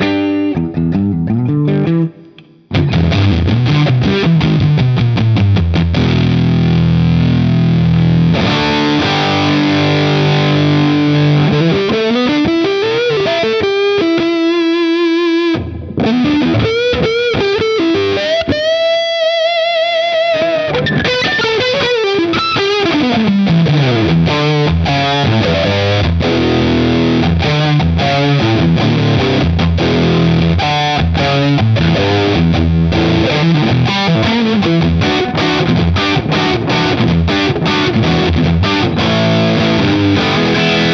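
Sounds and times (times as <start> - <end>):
distorted electric guitar: 0.0 - 40.9.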